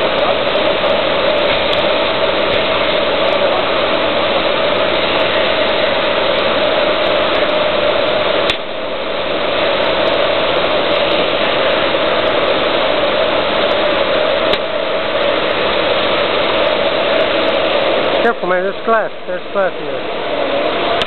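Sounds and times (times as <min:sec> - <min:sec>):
cutting machine running: 0:00.0 - 0:21.0.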